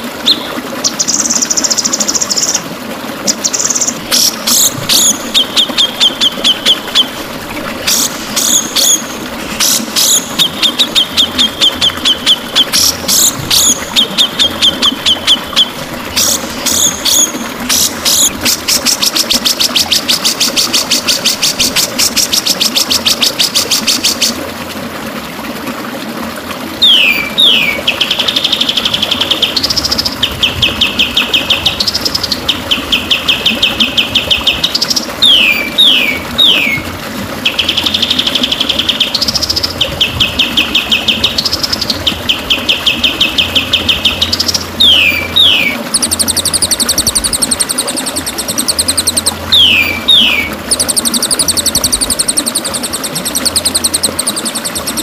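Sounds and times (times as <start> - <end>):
songbird whistles and trills: 3.3 - 7.2, 7.9 - 24.3, 26.8 - 36.9, 37.5 - 55.0.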